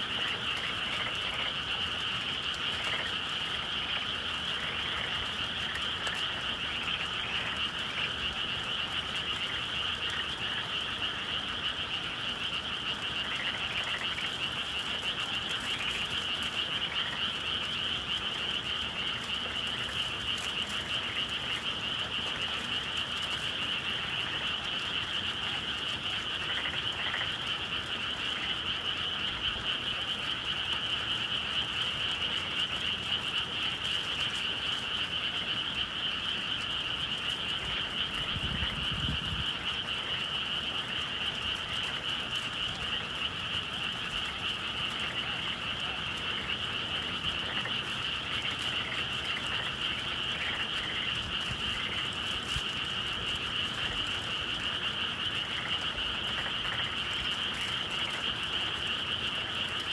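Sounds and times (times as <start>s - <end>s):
frogs chorus trilling: 0.0s - 59.9s.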